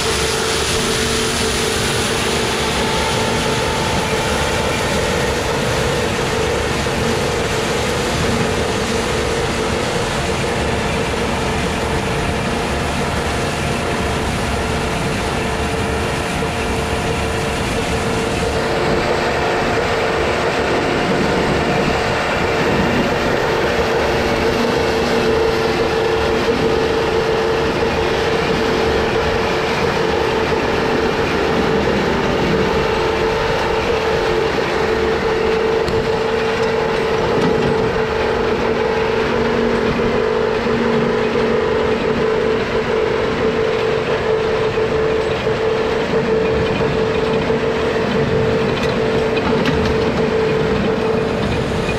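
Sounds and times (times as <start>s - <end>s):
baler mechanical clatter: 0.0s - 51.9s
constant machine whine: 0.0s - 51.9s.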